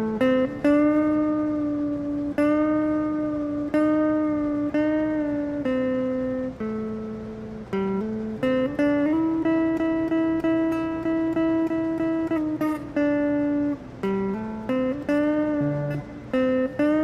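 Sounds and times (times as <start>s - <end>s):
electric guitar lead line: 0.0s - 17.0s.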